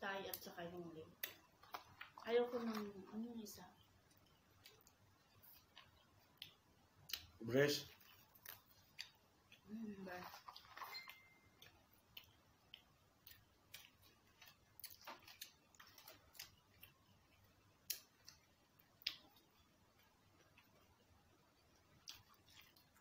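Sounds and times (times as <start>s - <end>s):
people eating with mouth smacks: 1.2s - 3.0s, 3.7s - 23.0s.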